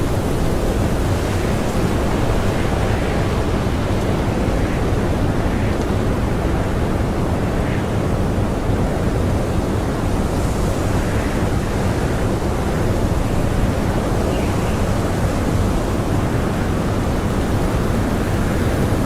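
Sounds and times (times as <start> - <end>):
blizzard wind blowing hard: 0.0 - 19.0.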